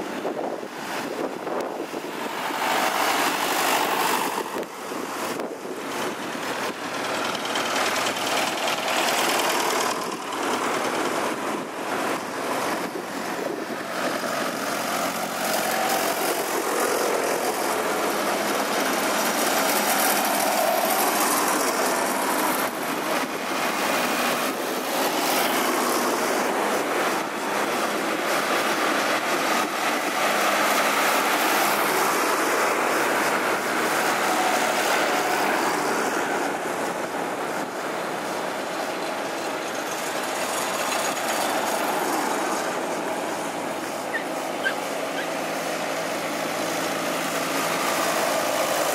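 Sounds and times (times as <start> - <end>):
tractors driving past: 0.0 - 48.9.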